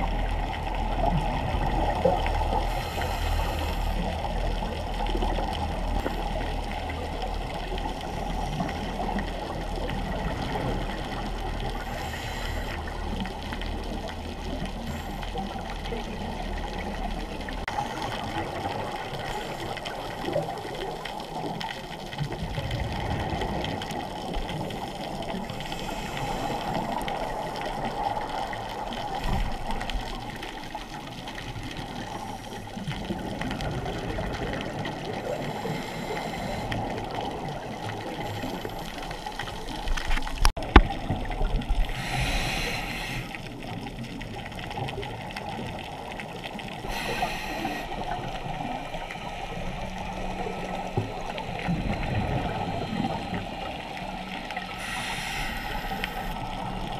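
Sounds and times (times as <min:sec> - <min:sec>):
muffled underwater wash: 0:00.0 - 0:56.9.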